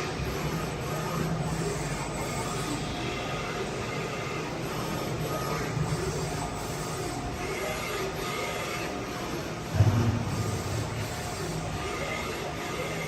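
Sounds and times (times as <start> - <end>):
machine steady mechanical rumble: 0.0 - 13.0.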